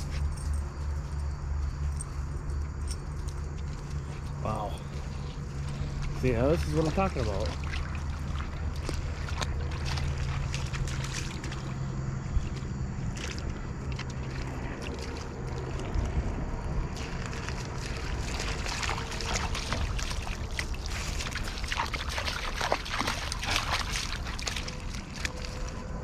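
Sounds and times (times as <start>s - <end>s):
steady low rumble: 0.0s - 26.0s
water splashing at river's edge: 3.1s - 26.0s.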